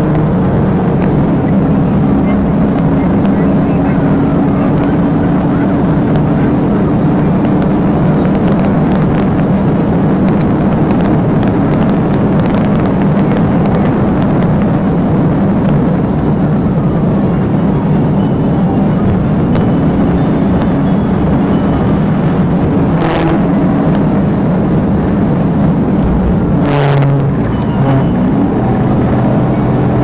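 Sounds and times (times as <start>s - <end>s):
vehicle engine and road noise: 0.0s - 30.0s.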